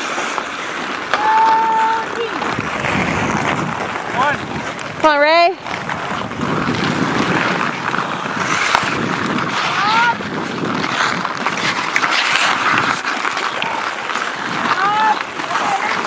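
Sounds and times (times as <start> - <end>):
hockey sticks clacking: 0.0 - 16.0
skates scraping on ice: 0.0 - 16.0.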